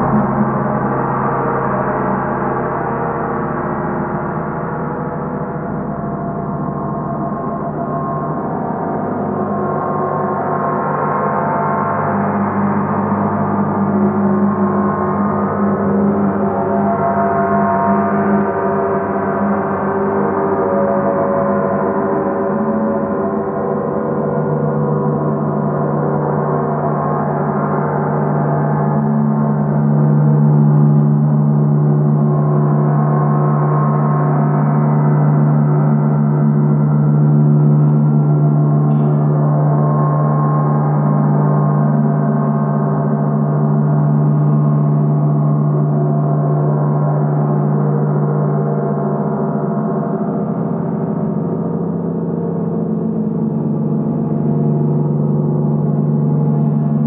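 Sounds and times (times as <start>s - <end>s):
deep hum: 0.0s - 57.0s.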